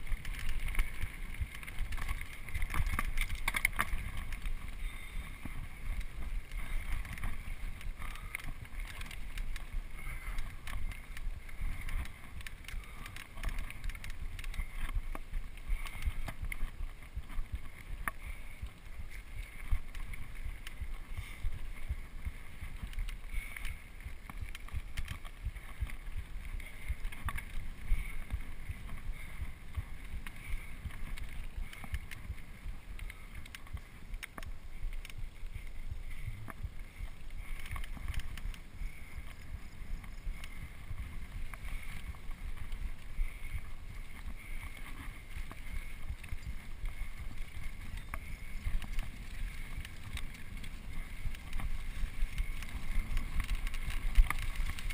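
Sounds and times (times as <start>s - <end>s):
bike rattles and knocks: 0.0s - 54.9s
wind rumbling on microphone: 0.0s - 54.9s.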